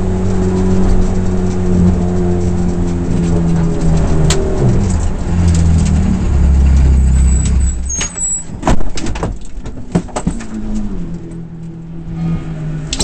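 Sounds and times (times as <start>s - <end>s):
race car engine rumble: 0.0s - 13.0s.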